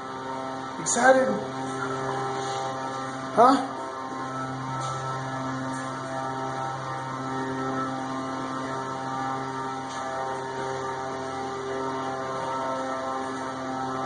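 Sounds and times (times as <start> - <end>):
steady electric hum: 0.0 - 14.0.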